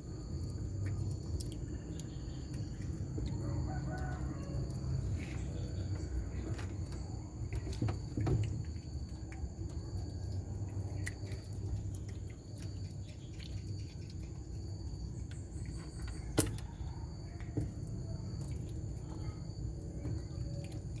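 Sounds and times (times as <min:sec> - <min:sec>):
animal chewing crunchily: 0:00.0 - 0:21.0
steady low hum: 0:00.0 - 0:21.0.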